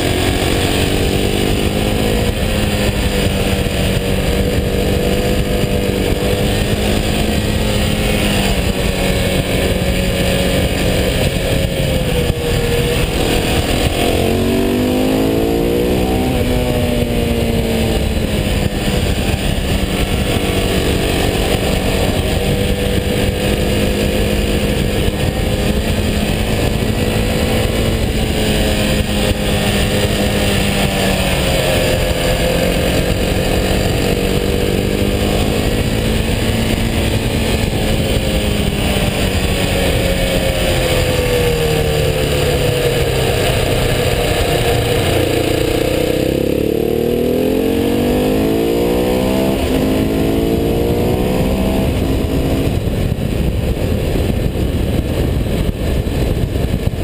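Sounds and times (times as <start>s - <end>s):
motorcycle engine running: 0.0s - 57.0s
wind rush: 0.0s - 57.0s.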